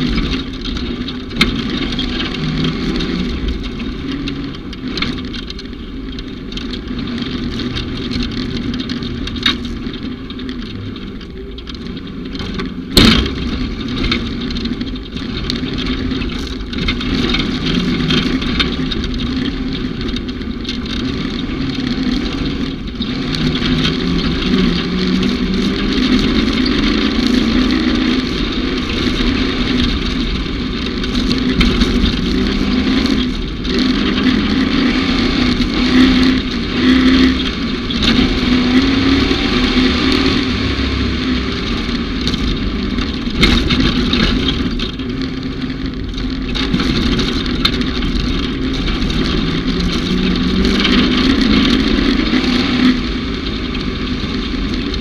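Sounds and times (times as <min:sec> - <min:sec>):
drivetrain and terrain noise: 0:00.0 - 0:55.0
utility vehicle engine running: 0:00.0 - 0:55.0.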